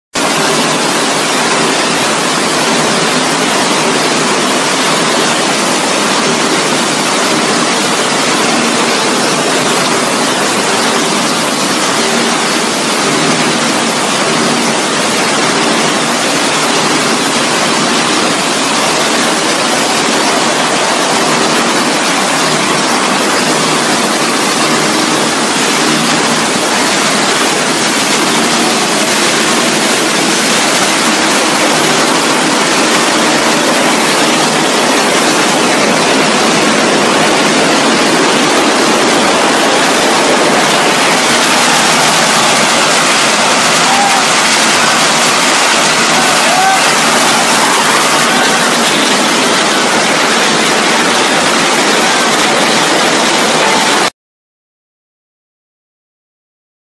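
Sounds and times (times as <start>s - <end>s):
sorting line machinery rushing: 0.2s - 54.1s.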